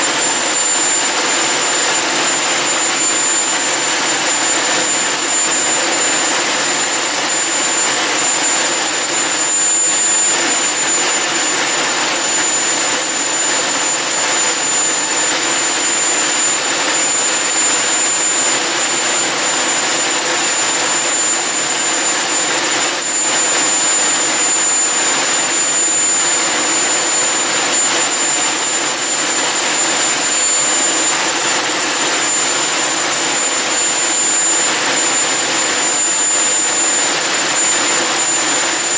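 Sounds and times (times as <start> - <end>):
high-pitched whine: 0.0 - 38.9.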